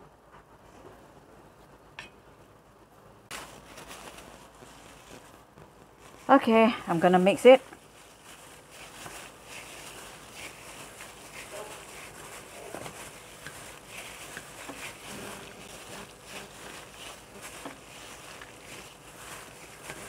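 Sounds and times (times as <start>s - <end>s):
meat mixing clicks and rustles: 3.3s - 20.0s.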